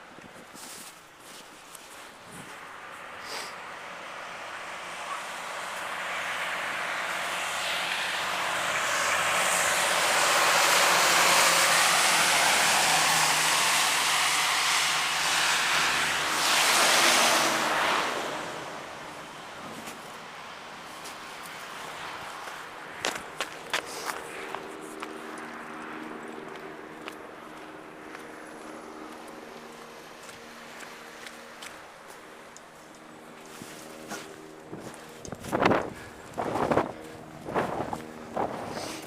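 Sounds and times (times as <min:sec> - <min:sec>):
vehicle passing: 0:02.4 - 0:39.0.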